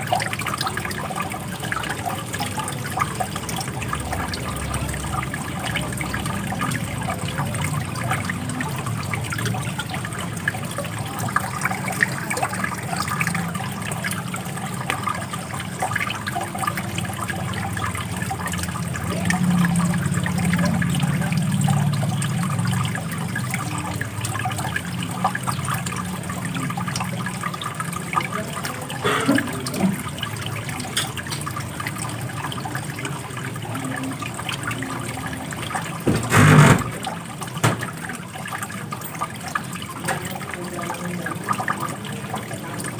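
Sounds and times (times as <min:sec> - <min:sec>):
running water splashing: 0:00.0 - 0:42.9.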